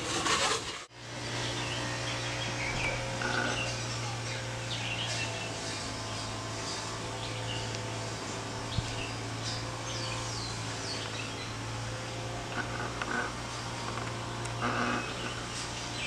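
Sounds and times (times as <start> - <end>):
steady low hum: 0.9 - 16.0
small birds chirping: 1.0 - 16.0.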